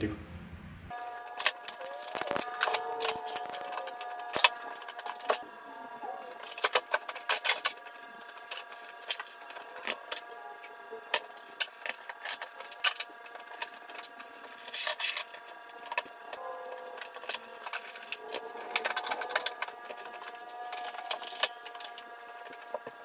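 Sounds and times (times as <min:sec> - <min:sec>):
faint multi-tone hum: 0:00.9 - 0:23.0.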